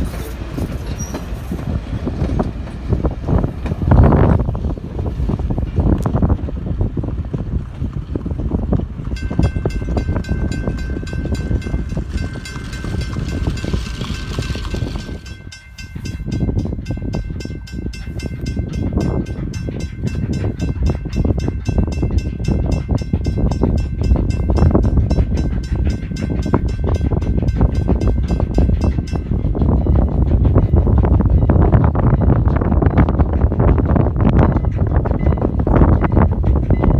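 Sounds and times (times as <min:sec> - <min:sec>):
steam train running by: 0:00.0 - 0:36.9
wind rumbling on microphone: 0:00.0 - 0:36.9.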